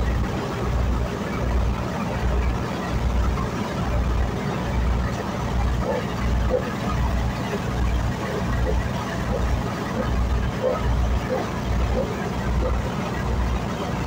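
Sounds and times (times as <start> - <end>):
boat engine throbbing: 0.0 - 14.0
rushing water: 0.0 - 14.0
wind: 0.0 - 14.0.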